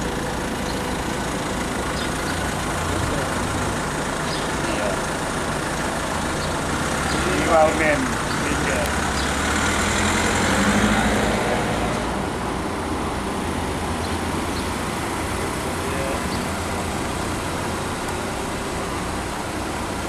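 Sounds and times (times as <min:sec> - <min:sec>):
car engine idling: 0:00.0 - 0:20.0
car passing slowly: 0:00.0 - 0:20.0.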